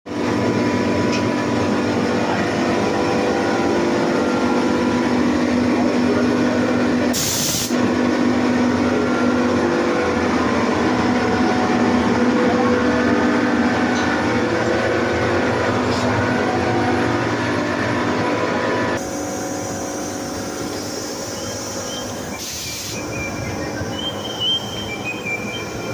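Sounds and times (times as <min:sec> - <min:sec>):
air compressor humming: 0:00.1 - 0:25.9.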